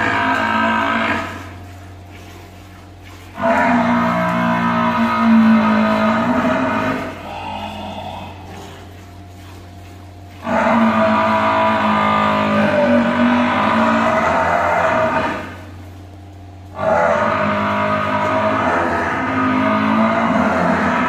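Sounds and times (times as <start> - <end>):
buffalo calf bawling: 0.0 - 15.7, 16.7 - 21.0.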